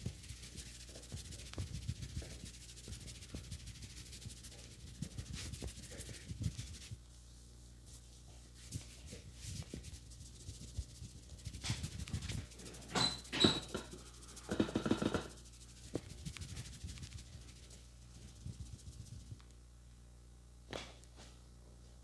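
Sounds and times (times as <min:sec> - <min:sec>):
hands rubbing skin and hair: 0:00.0 - 0:19.5.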